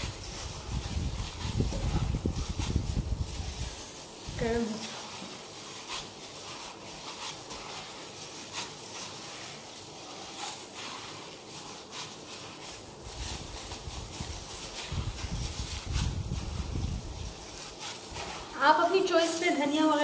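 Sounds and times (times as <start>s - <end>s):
gloved hands kneading mixture: 0.0s - 20.0s.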